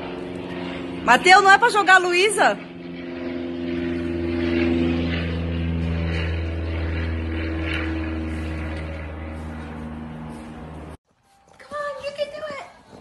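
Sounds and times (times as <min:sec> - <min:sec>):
low buzzing engine drone: 0:00.0 - 0:11.0.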